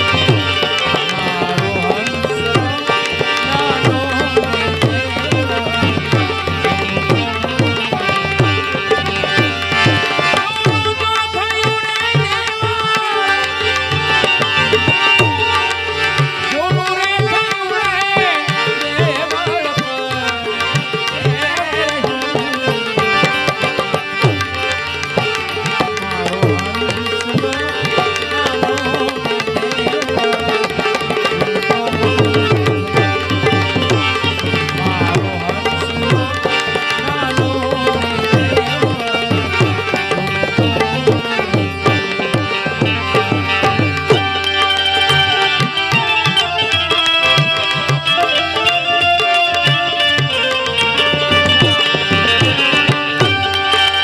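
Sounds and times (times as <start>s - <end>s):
sustained melodic accompaniment: 0.0s - 54.0s
tabla playing fast rhythm: 0.0s - 54.0s.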